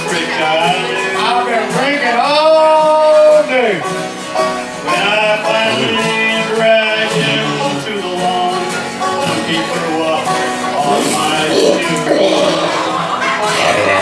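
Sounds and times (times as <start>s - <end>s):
man singing: 0.0s - 3.8s, 4.8s - 14.0s
acoustic guitar: 0.0s - 14.0s
banjo: 0.0s - 14.0s
mandolin: 0.0s - 14.0s.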